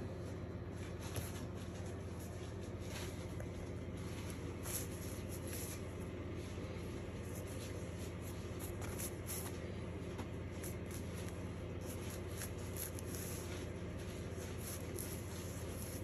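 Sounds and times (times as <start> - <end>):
soft rustles and ticks: 0.2 - 16.0.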